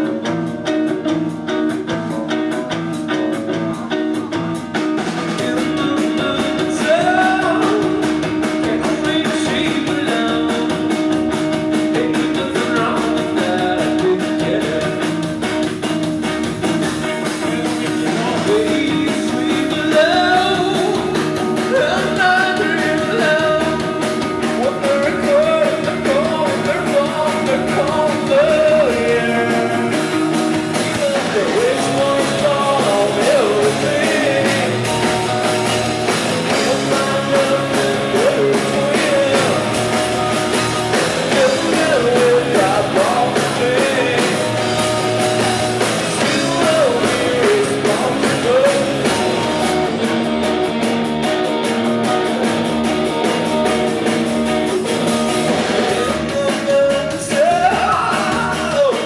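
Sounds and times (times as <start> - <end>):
rock band playing live: 0.0 - 59.0
wavering lead guitar line: 0.0 - 59.0.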